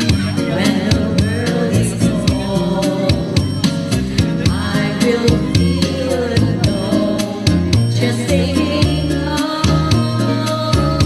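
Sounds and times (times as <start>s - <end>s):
karaoke music with beat: 0.0s - 11.0s
person singing: 0.0s - 11.0s.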